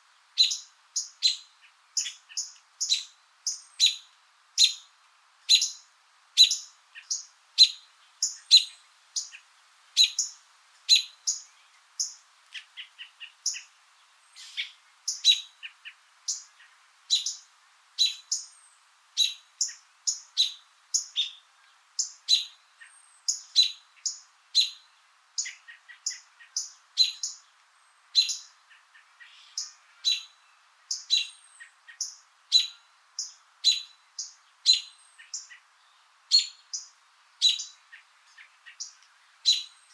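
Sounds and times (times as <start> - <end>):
small bird chirping: 0.4 - 39.9.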